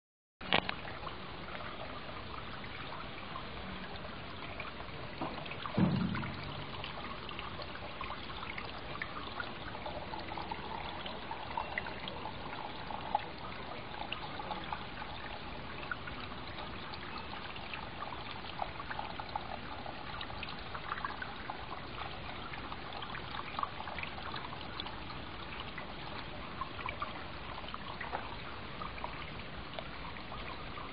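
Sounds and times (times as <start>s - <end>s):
fountain water trickling: 0.4s - 30.9s
small drip splashes: 0.4s - 30.9s.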